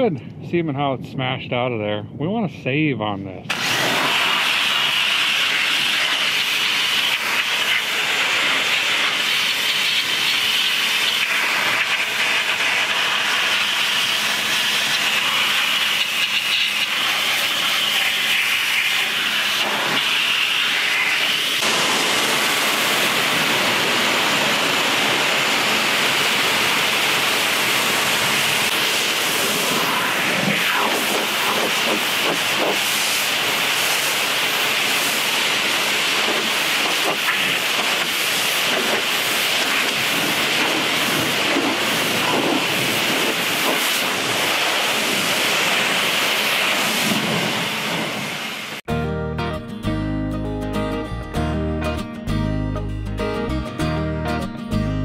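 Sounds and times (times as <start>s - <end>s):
pressure washer spraying water: 3.5s - 48.9s.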